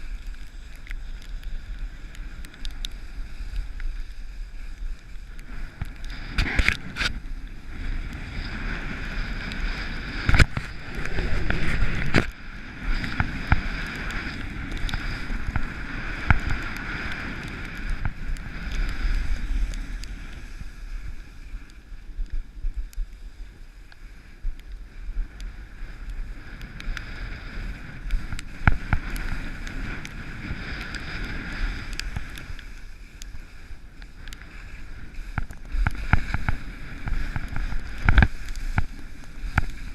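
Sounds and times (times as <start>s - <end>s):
sliding over snow: 0.0s - 22.1s, 25.0s - 39.9s
wind rumbling on microphone: 0.0s - 39.9s.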